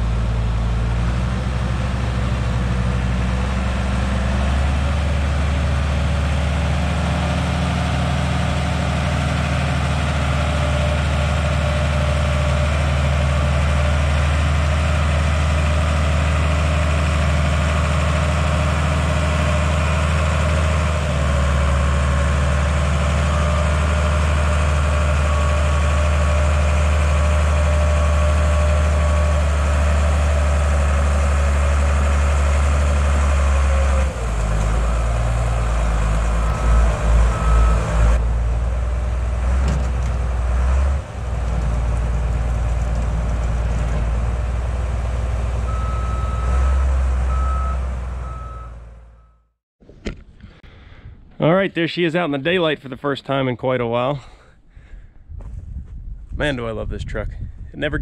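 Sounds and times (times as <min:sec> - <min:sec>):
heavy vehicle engine running: 0:00.0 - 0:49.5.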